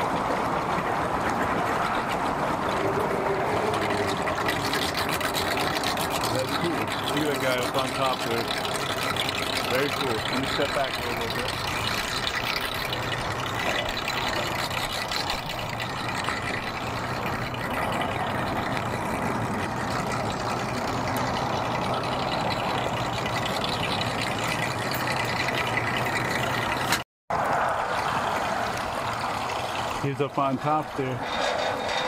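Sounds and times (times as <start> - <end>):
outboard motor idling: 0.0 - 27.0, 27.9 - 32.0.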